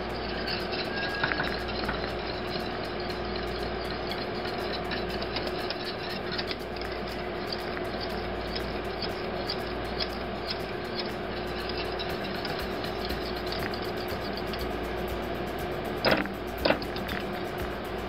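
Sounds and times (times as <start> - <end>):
steady hum: 0.0 - 18.0
whisk clicking and scraping in pan: 0.0 - 18.0.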